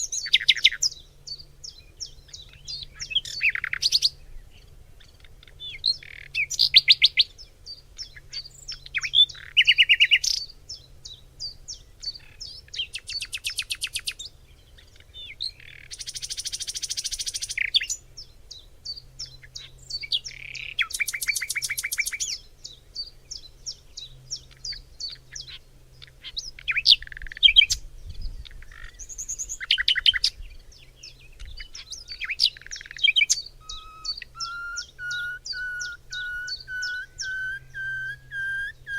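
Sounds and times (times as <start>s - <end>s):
bird trills: 0.0s - 27.8s, 28.4s - 38.9s
songbirds singing and calling: 0.0s - 38.9s.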